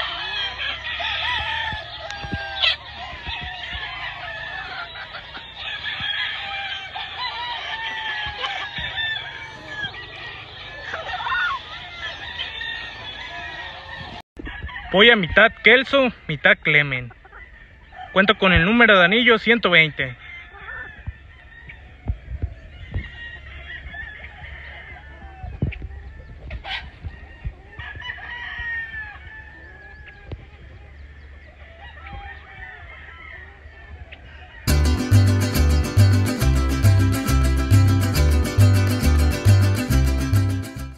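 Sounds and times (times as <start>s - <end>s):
chickens clucking: 0.0s - 40.9s
roosters crowing: 0.0s - 40.9s.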